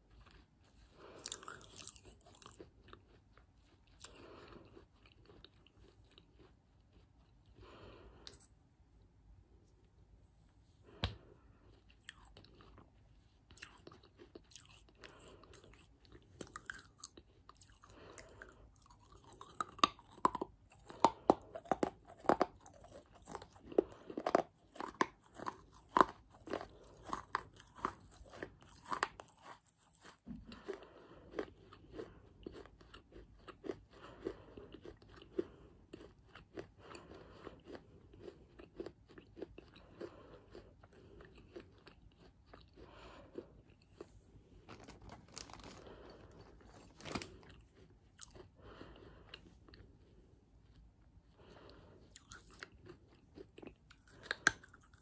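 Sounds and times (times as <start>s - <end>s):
crunching and chewing: 0.0s - 8.6s, 10.8s - 55.0s.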